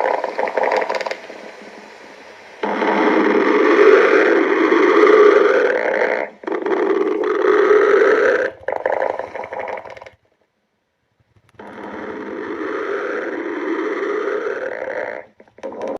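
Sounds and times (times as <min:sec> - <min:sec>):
stomach growling: 0:00.0 - 0:10.3, 0:11.4 - 0:15.9.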